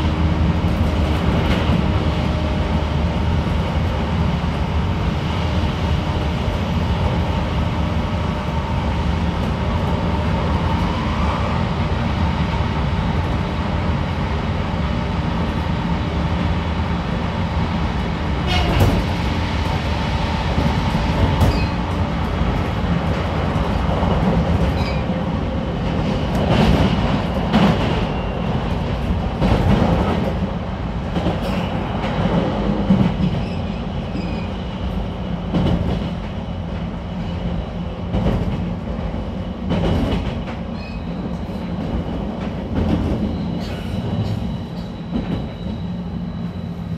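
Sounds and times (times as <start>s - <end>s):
train wheels rumbling: 0.0s - 46.9s.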